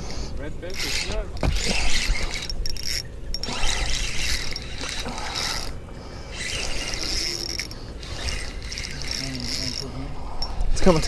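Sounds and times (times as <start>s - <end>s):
fishing reel whirring and clicking: 0.0s - 11.0s.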